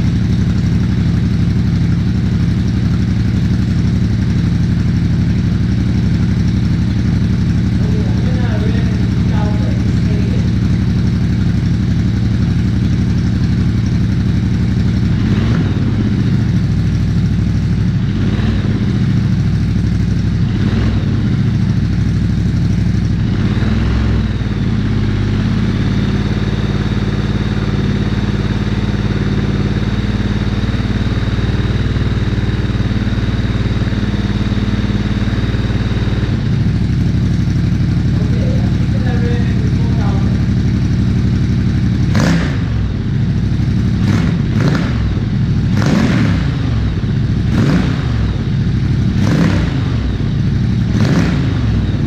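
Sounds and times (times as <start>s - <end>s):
motorcycle engine idling and revving: 0.0s - 52.0s.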